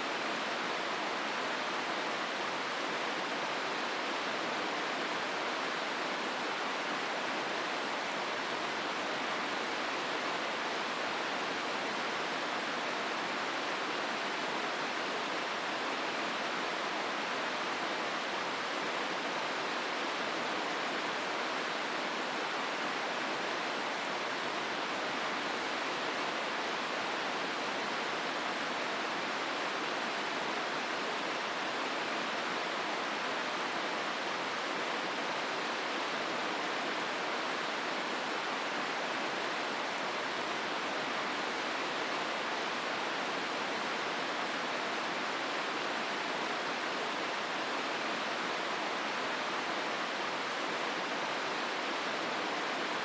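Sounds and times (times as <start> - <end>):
river rushing through rapids: 0.0 - 53.0.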